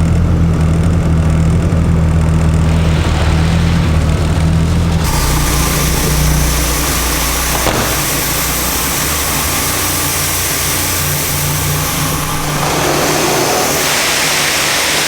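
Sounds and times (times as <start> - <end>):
car engine idling: 0.0 - 15.0
car wash water spray hissing: 2.4 - 15.0.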